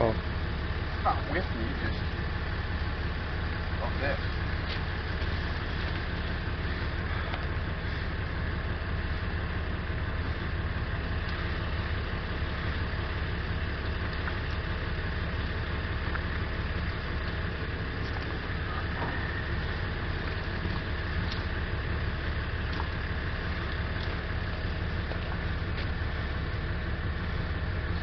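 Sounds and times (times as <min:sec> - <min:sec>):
engine idling rumble: 0:00.0 - 0:28.0.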